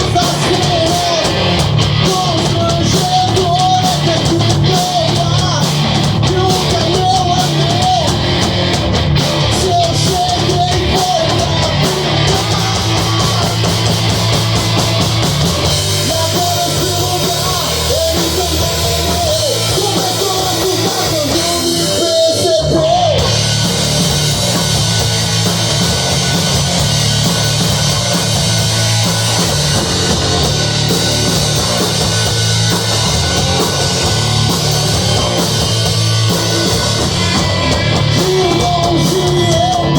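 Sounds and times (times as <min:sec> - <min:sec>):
bass: 0:00.0 - 0:39.9
drum kit: 0:00.0 - 0:39.9
electric guitar: 0:00.0 - 0:39.9
high melodic line: 0:00.0 - 0:39.9.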